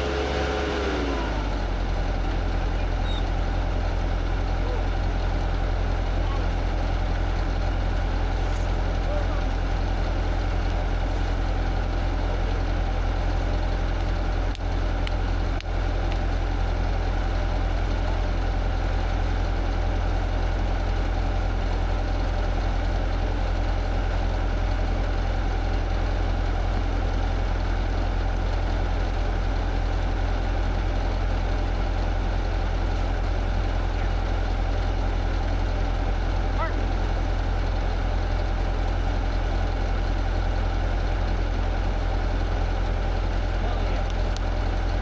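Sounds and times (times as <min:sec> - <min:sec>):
engine idling with deep rumble: 0:00.0 - 0:45.0.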